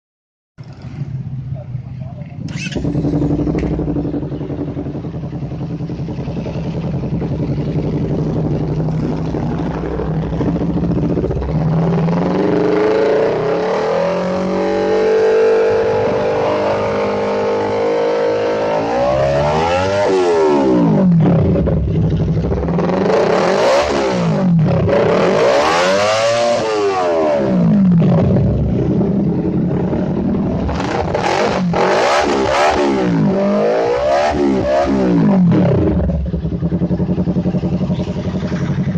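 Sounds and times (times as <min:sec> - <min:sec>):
motorcycle engine idling and revving: 0:00.6 - 0:38.9.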